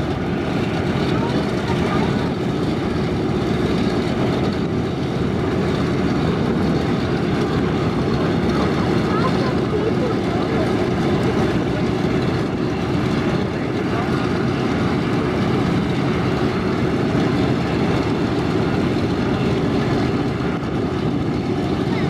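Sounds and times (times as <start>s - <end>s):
propeller aircraft engines rumbling: 0.0s - 22.0s.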